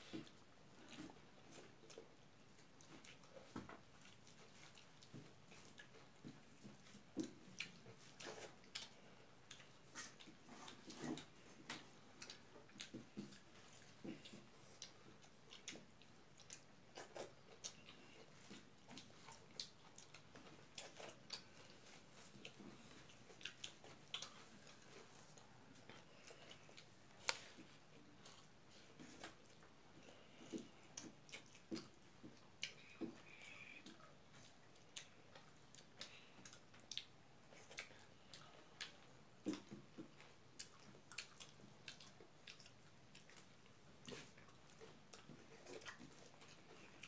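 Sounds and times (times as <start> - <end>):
chewing and lip smacks: 0.1 - 47.0.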